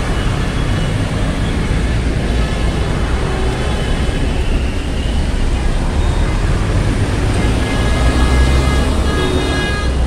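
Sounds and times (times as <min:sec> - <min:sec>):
road noise on wet street: 0:00.0 - 0:10.0.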